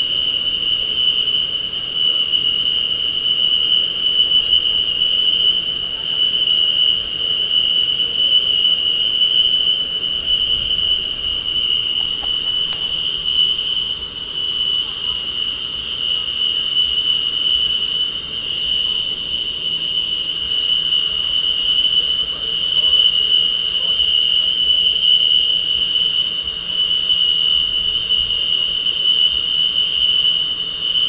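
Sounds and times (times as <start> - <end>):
high-pitched whine: 0.0 - 31.0.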